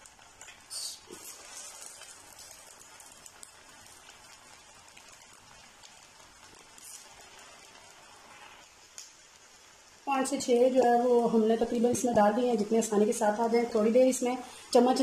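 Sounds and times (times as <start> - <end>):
dough frying in hot oil: 0.0 - 15.0.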